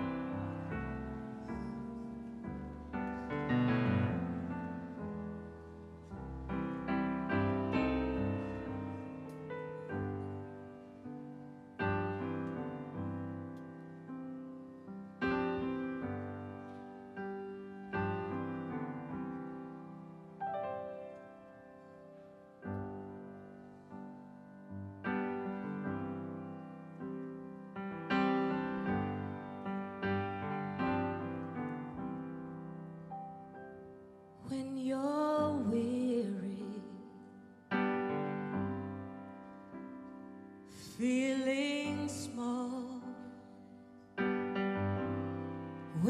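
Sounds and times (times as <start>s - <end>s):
grand piano chords: 0.0s - 46.0s.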